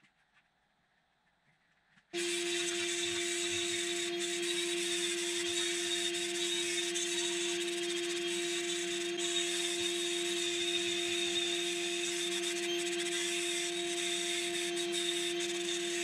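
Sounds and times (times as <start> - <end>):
electric power tool motor whine: 2.2 - 16.0.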